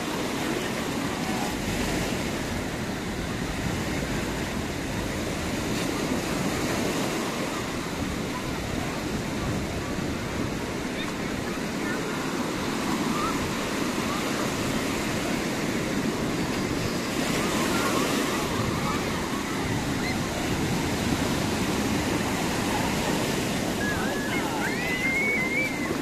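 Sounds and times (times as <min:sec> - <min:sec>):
small waves washing on shore: 0:00.0 - 0:26.0
people's voices: 0:00.2 - 0:26.0.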